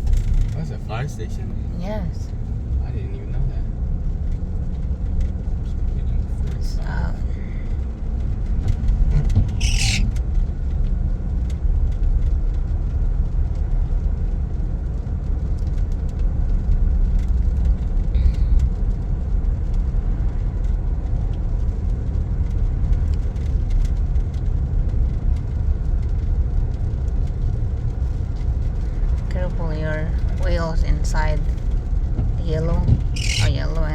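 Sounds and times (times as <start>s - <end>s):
truck engine and tyres rumbling: 0.0s - 33.9s.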